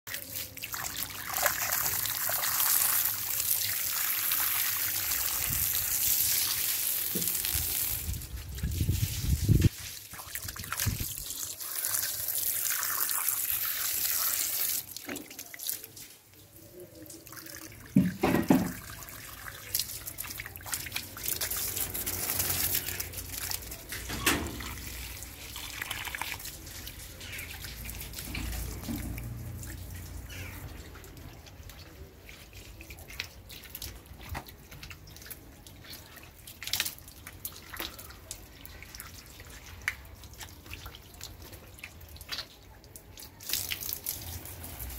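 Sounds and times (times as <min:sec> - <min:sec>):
hose water splashing on concrete: 0:00.1 - 0:44.9
water dripping and trickling: 0:00.1 - 0:44.9.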